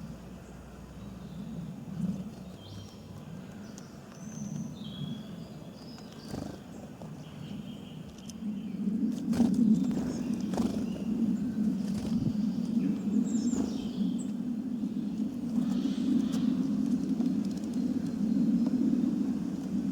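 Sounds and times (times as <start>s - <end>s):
small birds chirping: 0.0s - 19.9s
steady low rumble: 0.0s - 19.9s.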